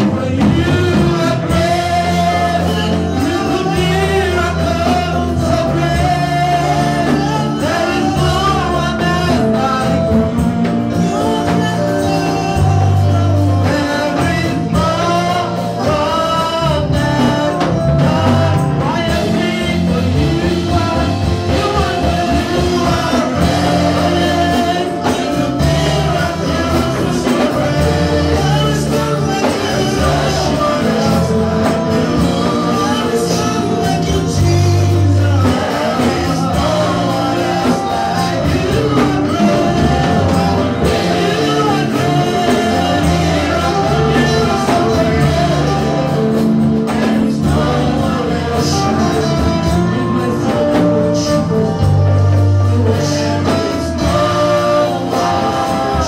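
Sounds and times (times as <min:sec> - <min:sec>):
backing vocalists: 0:00.0 - 0:56.0
bass line: 0:00.0 - 0:56.0
electric guitar: 0:00.0 - 0:56.0.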